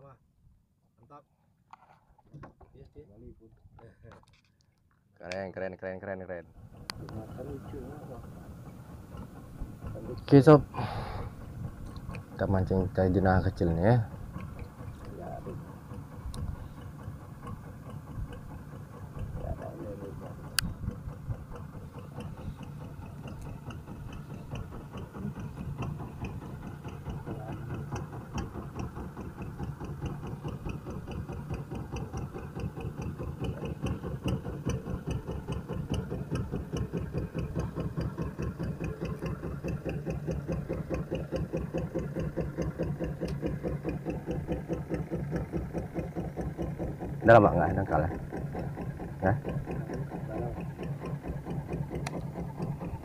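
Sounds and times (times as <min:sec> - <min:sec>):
small boat engine puttering: 0:05.2 - 0:53.0.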